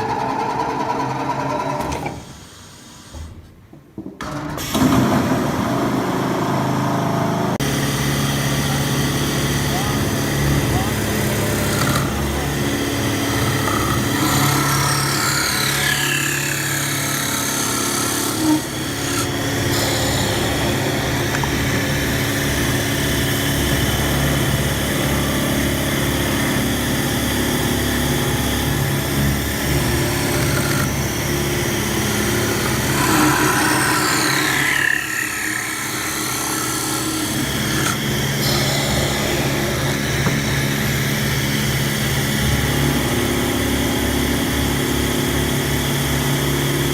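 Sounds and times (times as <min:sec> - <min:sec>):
woodworking machine whining: 0:04.3 - 0:46.9.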